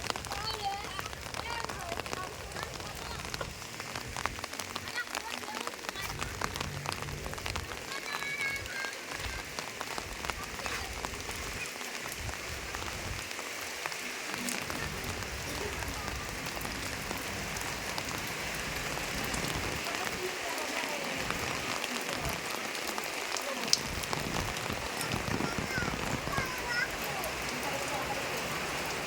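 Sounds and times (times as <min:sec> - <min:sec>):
raindrops ticking on hard surface: 0:00.0 - 0:29.0
steady rain falling: 0:00.0 - 0:29.0.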